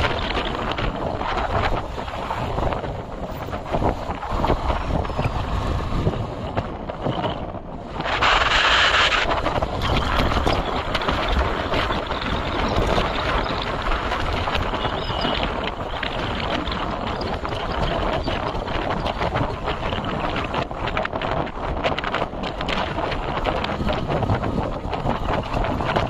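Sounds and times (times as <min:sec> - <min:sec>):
low rumble while travelling: 0:00.0 - 0:26.0
wind buffeting microphone: 0:00.0 - 0:26.0.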